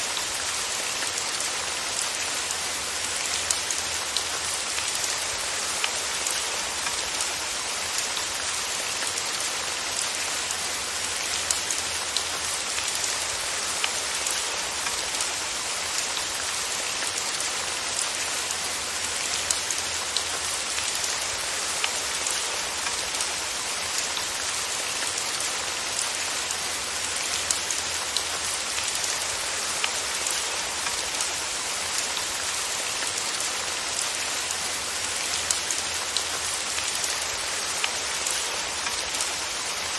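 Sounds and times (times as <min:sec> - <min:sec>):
patter of raindrops: 0:00.0 - 0:39.9
rain hiss: 0:00.0 - 0:39.9.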